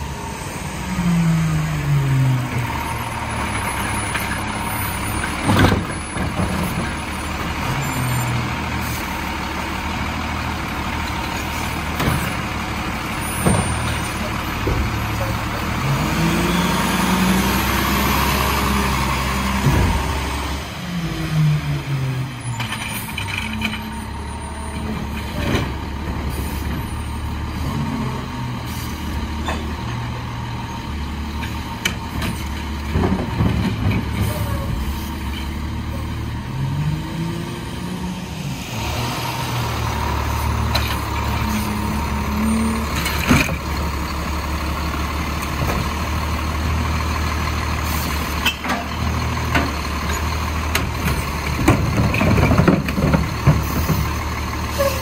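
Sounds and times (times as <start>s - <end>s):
diesel truck engine revving: 0.0s - 55.0s.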